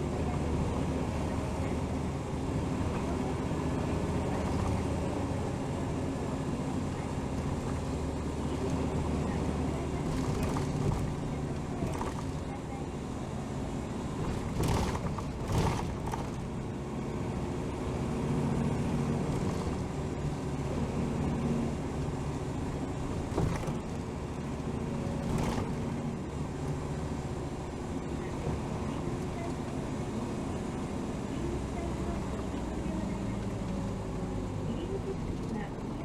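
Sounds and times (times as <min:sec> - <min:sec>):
bus diesel engine droning: 0:00.0 - 0:36.0.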